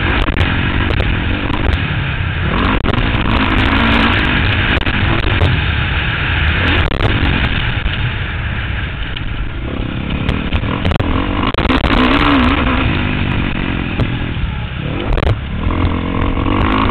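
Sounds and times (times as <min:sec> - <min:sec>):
motocross bike engine revving: 0:00.0 - 0:08.3, 0:09.4 - 0:16.9.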